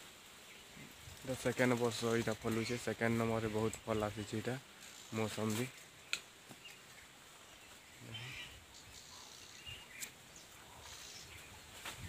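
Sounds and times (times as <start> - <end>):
faint outdoor ambience: 0.0 - 12.0
soft bird chirps: 2.1 - 12.0.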